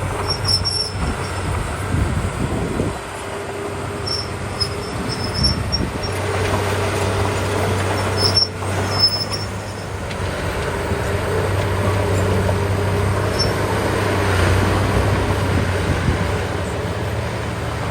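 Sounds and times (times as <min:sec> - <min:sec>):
bulldozer diesel engine under load: 0:00.0 - 0:17.9
steel tracks squealing: 0:00.0 - 0:17.9.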